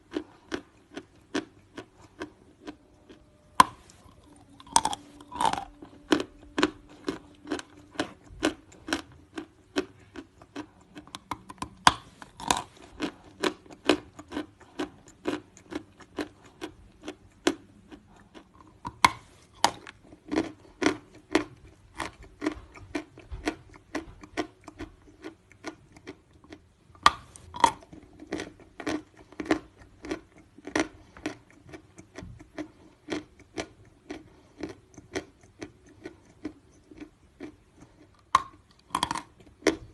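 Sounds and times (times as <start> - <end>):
chewing crunchy chalk: 0.0 - 39.9.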